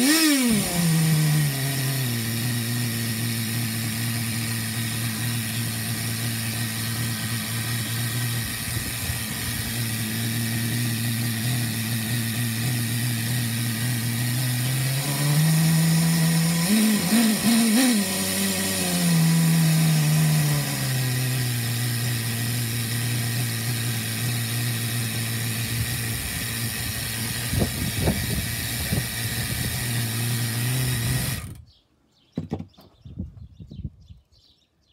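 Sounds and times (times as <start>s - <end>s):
model engine running: 0.0s - 31.7s.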